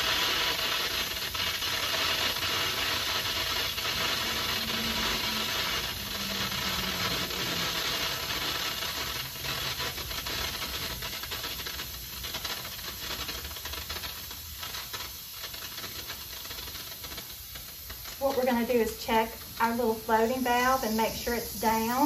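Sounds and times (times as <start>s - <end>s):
pressure cooker venting steam: 0.0s - 22.0s.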